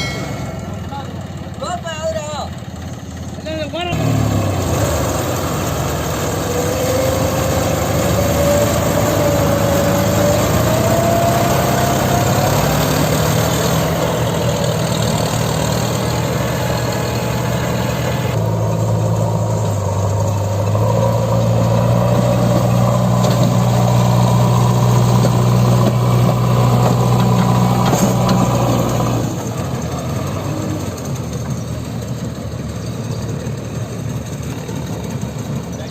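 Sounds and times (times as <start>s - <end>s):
heavy diesel engine running: 0.0s - 35.9s.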